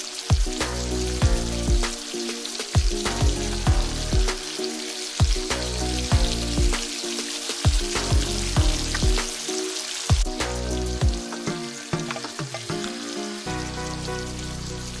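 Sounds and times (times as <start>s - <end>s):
electronic music with deep beat: 0.0s - 15.0s
onion sizzling in hot oil: 0.0s - 15.0s.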